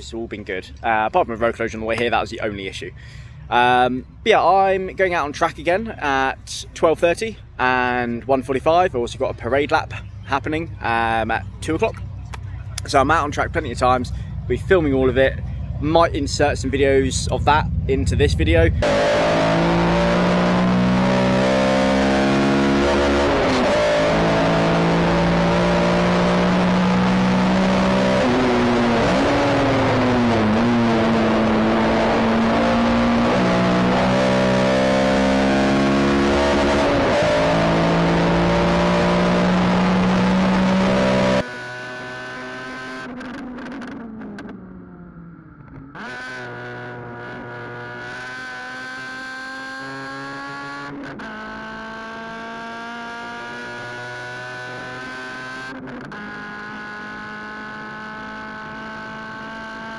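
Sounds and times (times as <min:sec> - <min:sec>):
car engine at high revs: 0:09.4 - 0:59.9.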